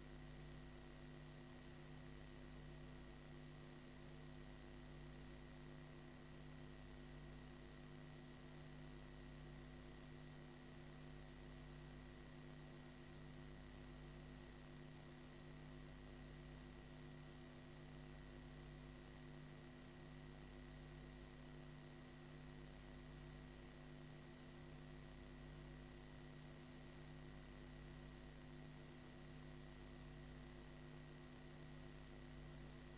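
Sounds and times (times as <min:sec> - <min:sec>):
faint electrical hum with hiss: 0:00.0 - 0:32.9.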